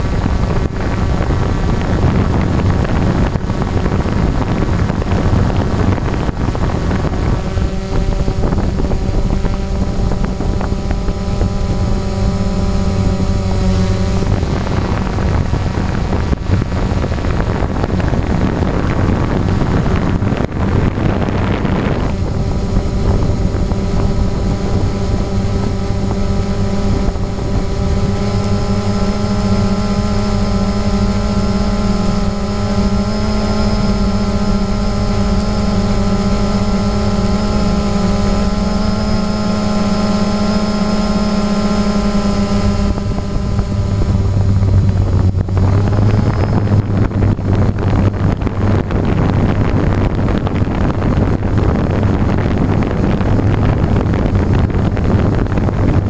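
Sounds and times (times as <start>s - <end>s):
drone propellers buzzing: 0.0s - 56.0s
wind on microphone: 0.0s - 56.0s.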